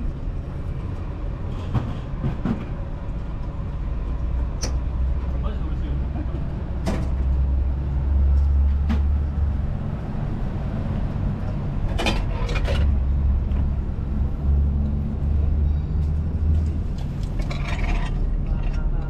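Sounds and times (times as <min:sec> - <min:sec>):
steady low rumble: 0:02.2 - 0:19.0.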